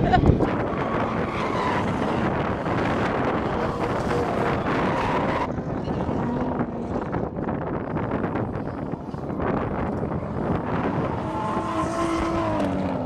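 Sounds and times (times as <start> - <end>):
engines revving: 0.0 - 13.0
wind noise on microphone: 0.0 - 13.0.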